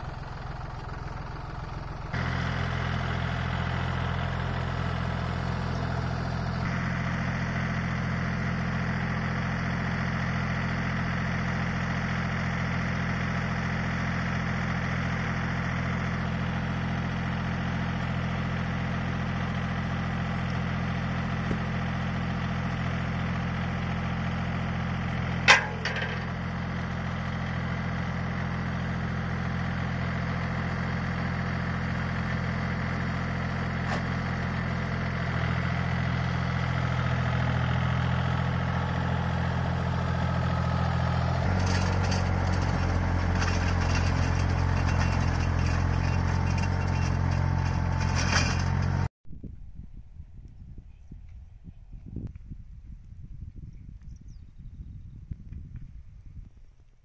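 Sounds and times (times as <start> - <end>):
diesel tractor idling: 0.0 - 49.1.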